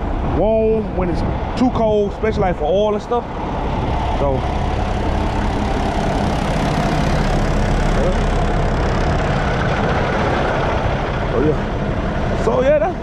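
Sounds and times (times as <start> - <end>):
diesel truck engine idling: 0.0 - 13.0
wind on microphone: 0.0 - 13.0.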